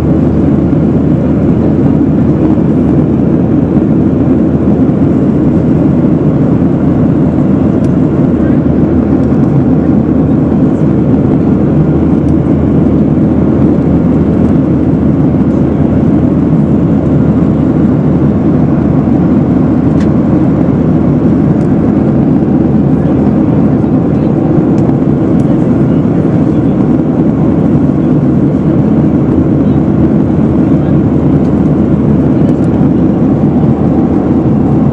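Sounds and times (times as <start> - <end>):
jet airliner cabin drone: 0.0 - 34.9.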